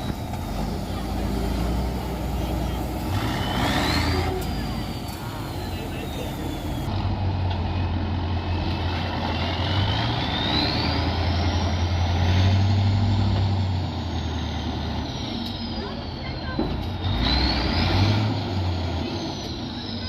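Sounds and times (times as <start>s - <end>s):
truck diesel engine working hard: 0.0s - 20.0s.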